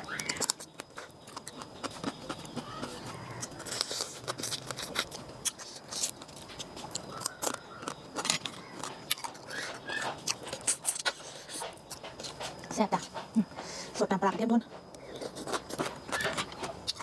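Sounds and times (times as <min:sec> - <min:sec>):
crisp chewing crunches: 0:00.0 - 0:12.6, 0:15.0 - 0:17.0.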